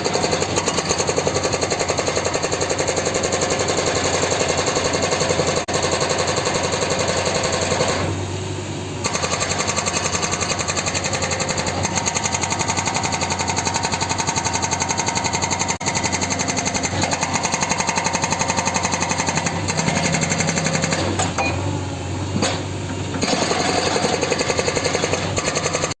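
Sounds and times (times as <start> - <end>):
hydraulic rock breaker hammering: 0.0 - 8.2, 9.0 - 26.0
machine engine running: 0.0 - 26.0.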